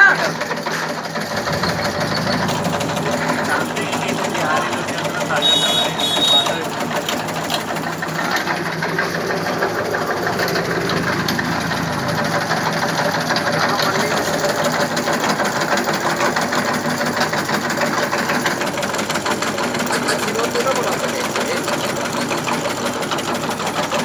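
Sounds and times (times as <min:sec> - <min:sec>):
chopping machine clatter: 0:00.0 - 0:24.0
motor hum: 0:00.9 - 0:23.1.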